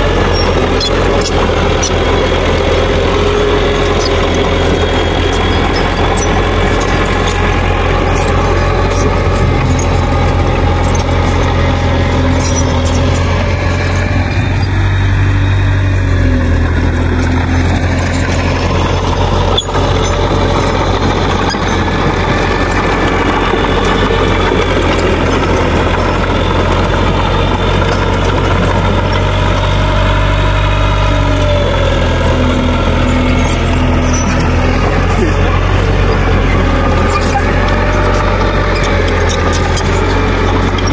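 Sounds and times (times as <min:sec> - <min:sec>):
bulldozer diesel engine under load: 0:00.0 - 0:40.9.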